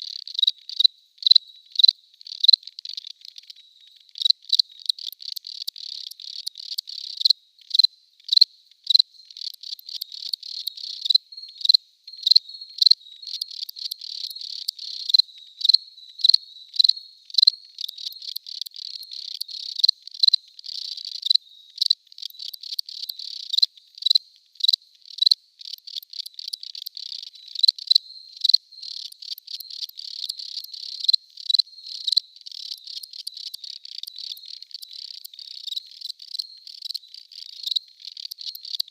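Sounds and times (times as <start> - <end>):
crickets chirping: 0.1 - 38.9.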